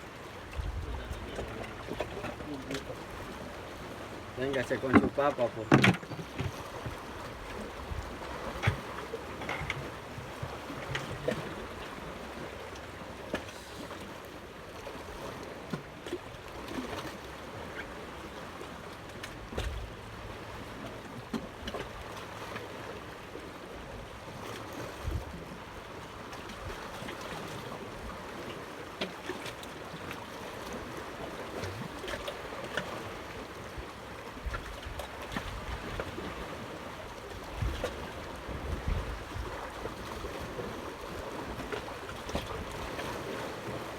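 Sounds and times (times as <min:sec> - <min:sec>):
wind: 0:00.0 - 0:43.9.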